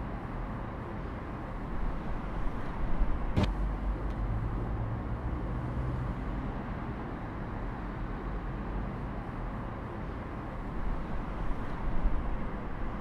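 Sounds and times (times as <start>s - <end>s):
faint engine-like hum: 0.0s - 13.0s
low rumble of traffic: 0.0s - 13.0s.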